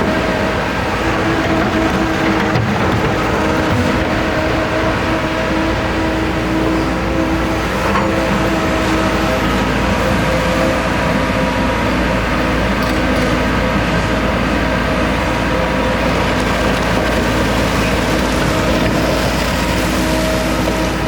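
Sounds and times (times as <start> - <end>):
excavator engine and hydraulics drone: 0.0 - 21.0.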